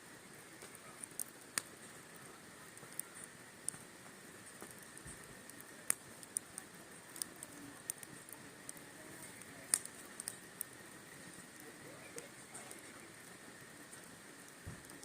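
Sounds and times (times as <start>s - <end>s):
faint hiss: 0.0s - 15.0s
fire popping and snapping: 0.0s - 15.0s
wood fire crackling: 0.0s - 15.0s.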